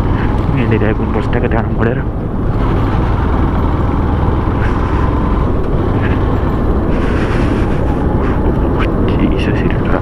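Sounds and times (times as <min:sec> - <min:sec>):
motorbike engine running: 0:00.0 - 0:09.2
wind and road noise: 0:00.0 - 0:10.0.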